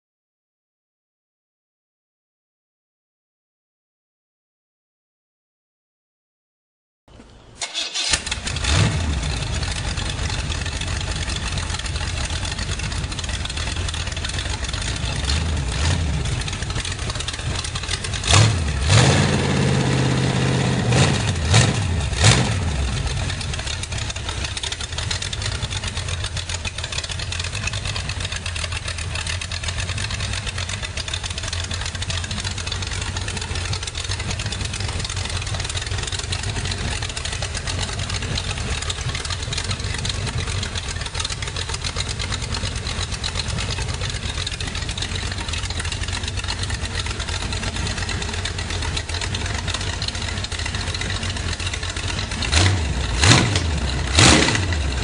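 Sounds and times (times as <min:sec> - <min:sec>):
car engine revving and idling: 0:07.9 - 0:55.0.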